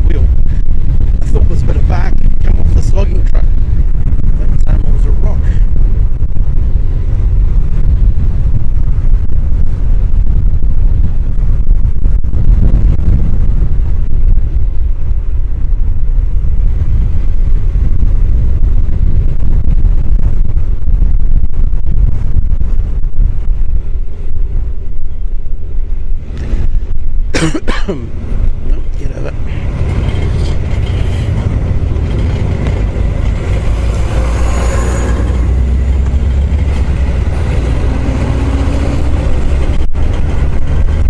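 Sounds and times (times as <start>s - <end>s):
motorcycle riding: 0.0s - 41.0s
wind buffeting helmet microphone: 0.0s - 41.0s.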